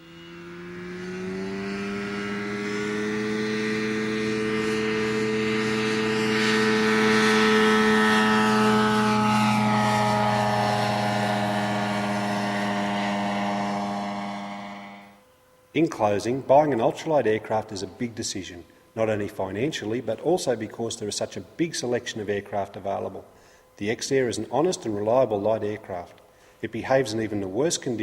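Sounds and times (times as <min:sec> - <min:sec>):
light aircraft engine drone: 0:00.0 - 0:28.0.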